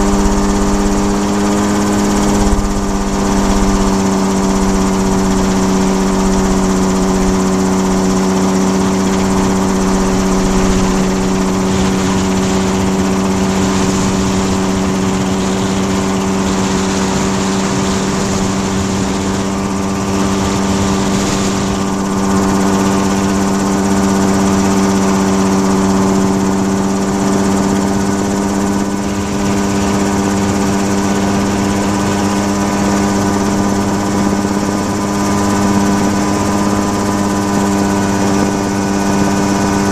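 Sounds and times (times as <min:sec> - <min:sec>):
small aircraft engine running: 0:00.0 - 0:39.9.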